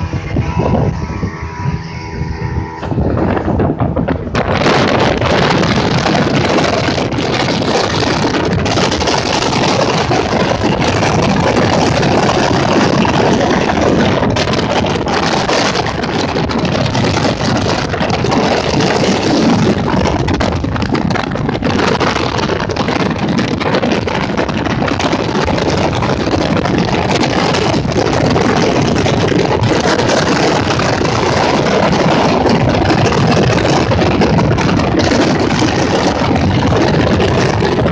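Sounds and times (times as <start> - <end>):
motorboat engine running: 0.0 - 37.9
water rushing: 0.0 - 37.9.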